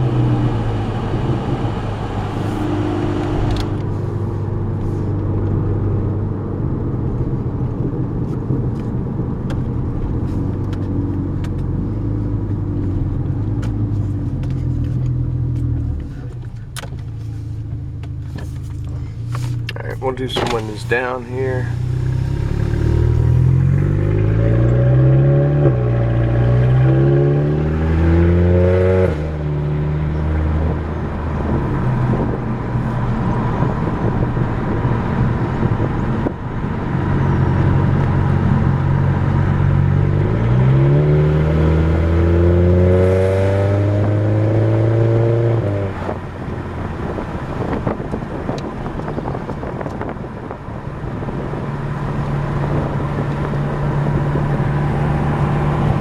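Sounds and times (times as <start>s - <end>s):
car exhaust note climbing: 0.0s - 56.0s.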